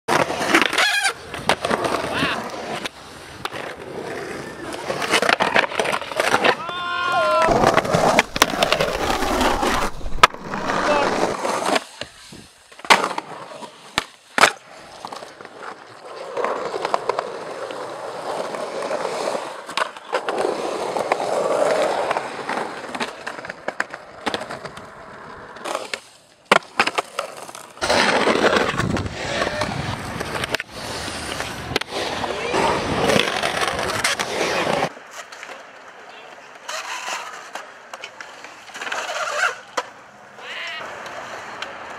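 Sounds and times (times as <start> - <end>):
skateboard clacks: 0.1 - 41.9
skateboard wheels rolling on concrete: 0.1 - 41.9.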